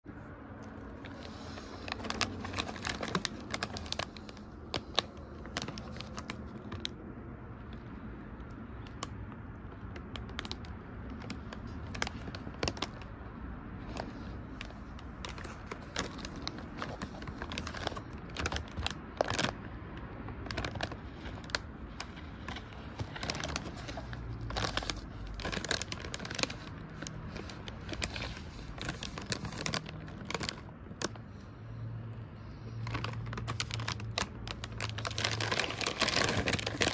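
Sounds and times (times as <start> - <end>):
plastic snack bag crinkling: 0.6 - 31.8, 32.4 - 36.9.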